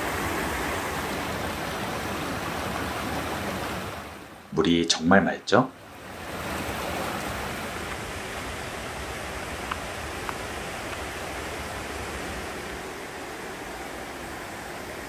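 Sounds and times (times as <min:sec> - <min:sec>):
stream rushing over stones: 0:00.0 - 0:05.1, 0:05.8 - 0:15.0.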